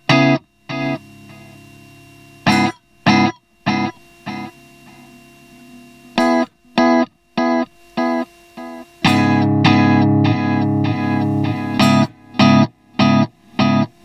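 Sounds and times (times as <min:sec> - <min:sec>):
guitar chords with delay echoes: 0:00.0 - 0:05.2, 0:06.2 - 0:14.0.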